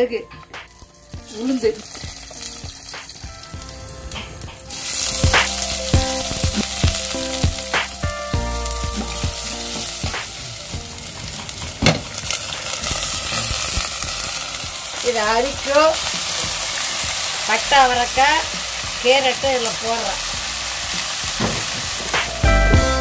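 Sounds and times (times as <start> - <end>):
onion frying loudly: 0.0 - 23.0
seeds sizzling in hot oil: 0.6 - 22.6.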